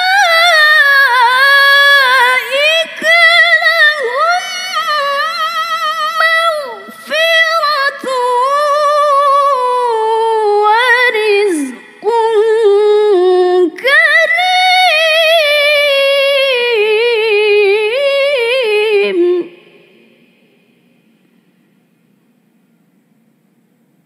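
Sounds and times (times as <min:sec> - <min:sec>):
woman reciting melodically: 0:00.0 - 0:20.4.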